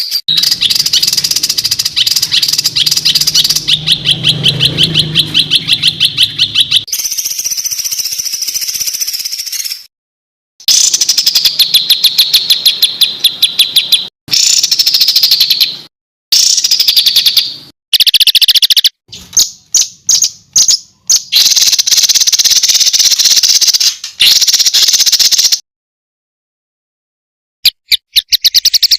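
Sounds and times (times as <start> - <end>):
songbird rapid harsh trills: 0.0 - 9.9, 10.6 - 25.6.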